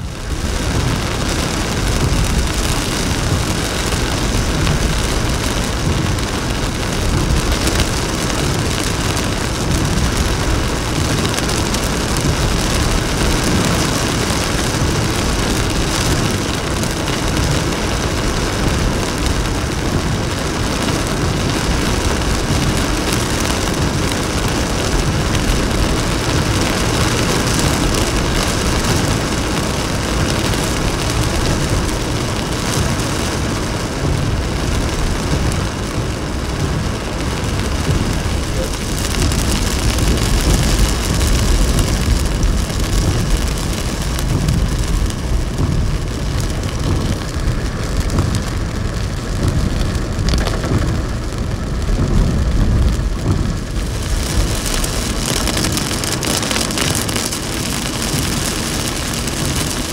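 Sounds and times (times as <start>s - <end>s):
deep rumble of traffic: 0.0s - 59.9s
heavy rain: 0.0s - 59.9s
tyres hissing on wet road: 0.0s - 59.9s.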